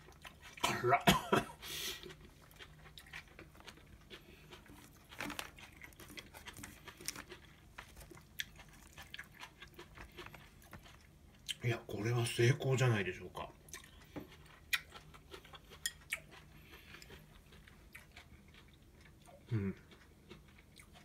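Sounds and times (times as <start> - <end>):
chewing crunchy cabbage: 0.0 - 21.0.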